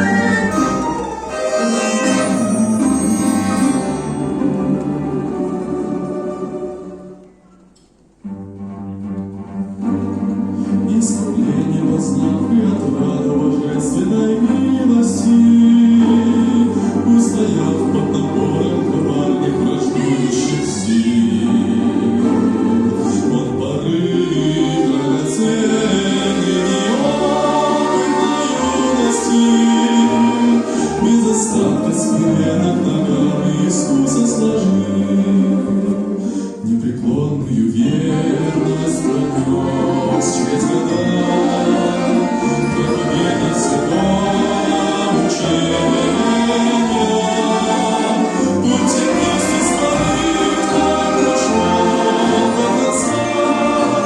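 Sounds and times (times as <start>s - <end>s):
choir singing a hymn: 0.0s - 7.2s, 10.3s - 54.0s
orchestral accompaniment: 0.0s - 54.0s.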